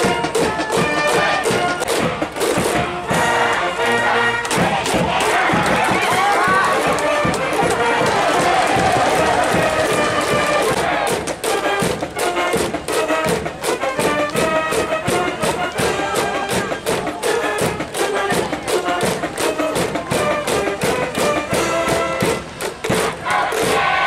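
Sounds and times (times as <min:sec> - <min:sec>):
brass melody: 0:00.0 - 0:24.0
steady drumbeat: 0:00.0 - 0:24.0.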